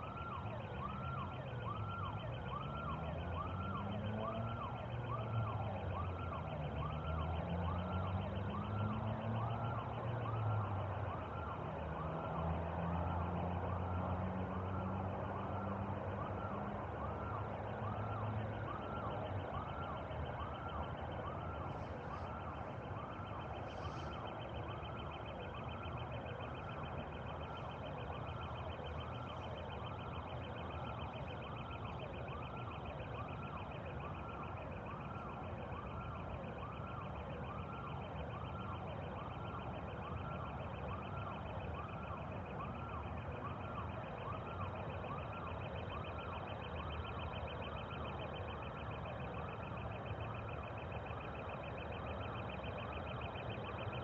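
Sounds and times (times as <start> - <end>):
siren-like rising and falling tone: 0.0 - 54.0.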